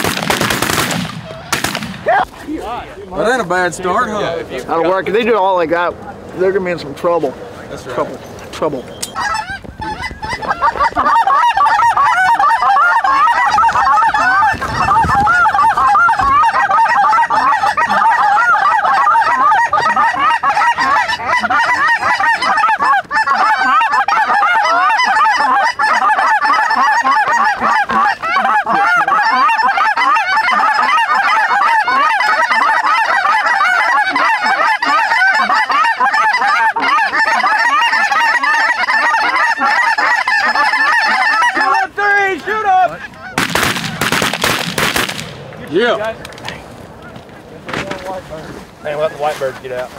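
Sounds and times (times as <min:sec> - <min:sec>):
flock of geese honking: 0:00.0 - 0:49.9.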